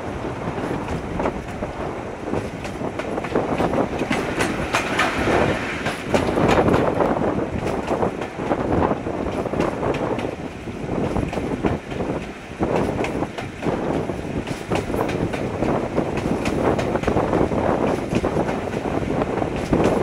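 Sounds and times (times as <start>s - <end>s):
wheels rumbling on rail: 0.0s - 20.0s
wind rushing past microphone: 0.0s - 20.0s.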